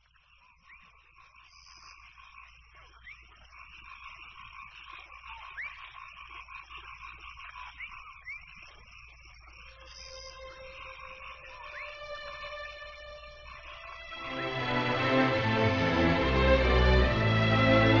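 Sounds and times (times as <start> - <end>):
chorus of frogs trilling: 0.0 - 18.0.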